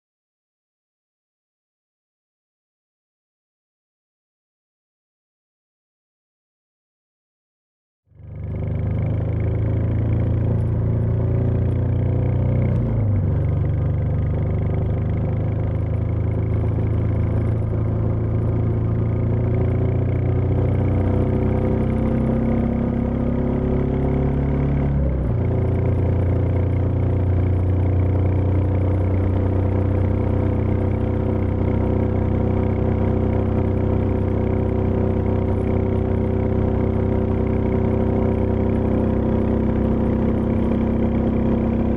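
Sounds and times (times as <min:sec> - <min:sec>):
motorcycle engine running: 0:08.1 - 0:41.9.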